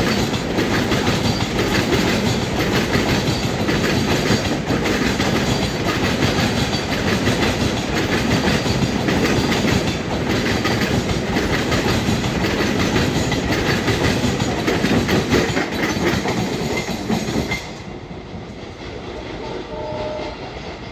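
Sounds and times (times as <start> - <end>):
freight train wheels clattering: 0.0 - 20.9.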